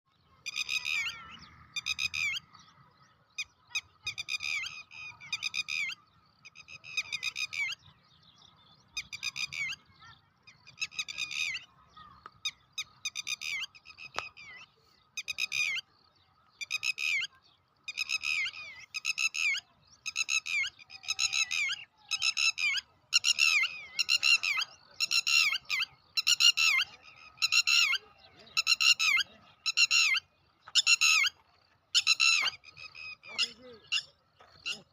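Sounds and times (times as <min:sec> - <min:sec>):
birds harsh alarm calls: 0:00.4 - 0:02.6, 0:03.4 - 0:07.9, 0:08.9 - 0:14.5, 0:16.6 - 0:31.4, 0:32.0 - 0:34.9.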